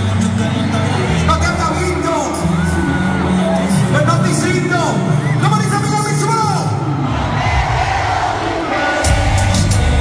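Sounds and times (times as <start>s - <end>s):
loud live concert music: 0.0s - 10.0s.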